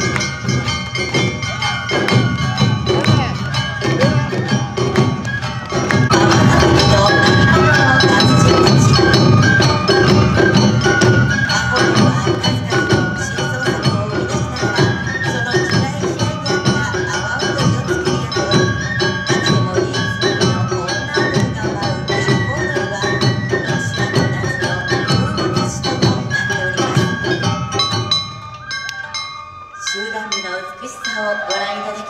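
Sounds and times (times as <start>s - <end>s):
bamboo flute melody: 0.0s - 32.0s
drums and percussion beat: 0.0s - 32.0s.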